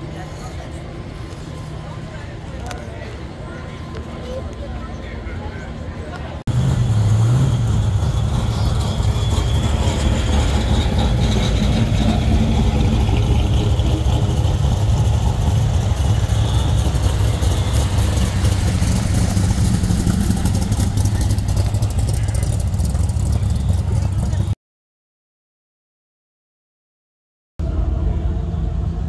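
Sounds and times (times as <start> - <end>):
car engine idling low rumble: 0.0 - 24.6, 27.6 - 29.0.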